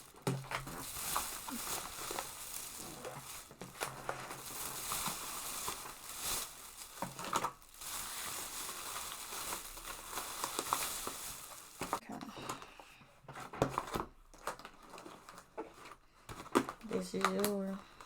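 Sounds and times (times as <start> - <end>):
plastic bags rustling: 0.0 - 12.6, 13.4 - 18.0.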